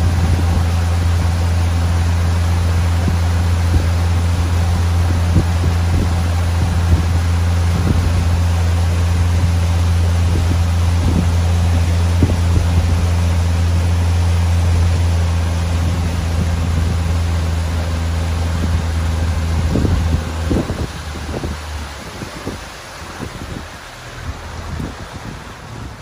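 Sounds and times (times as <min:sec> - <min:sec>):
motorboat engine running: 0:00.0 - 0:26.0
water rushing along hull: 0:00.0 - 0:26.0
wind on microphone: 0:00.0 - 0:26.0.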